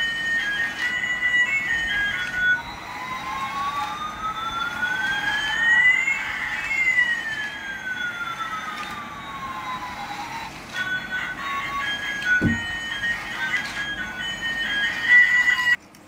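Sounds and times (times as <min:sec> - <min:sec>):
electronic toy jet whine: 0:00.0 - 0:15.8.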